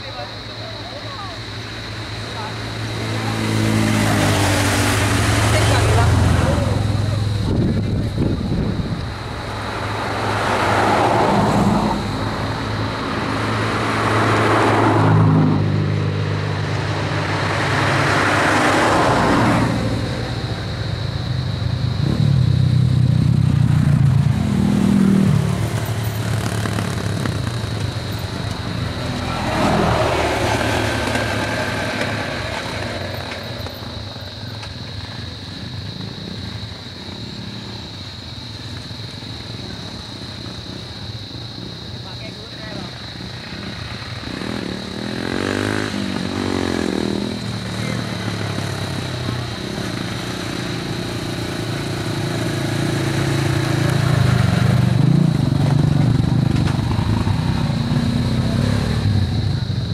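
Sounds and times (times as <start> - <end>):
car engines passing: 0.0 - 59.9
motorcycle engines passing: 0.0 - 59.9.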